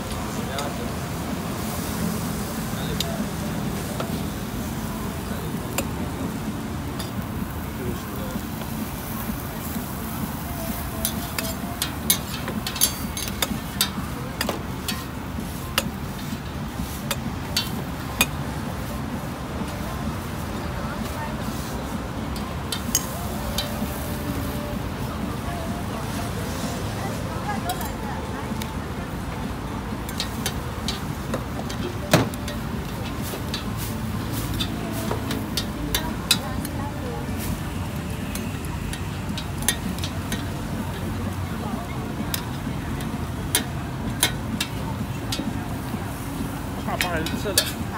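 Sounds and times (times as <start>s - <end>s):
market noise rumble: 0.0s - 47.9s.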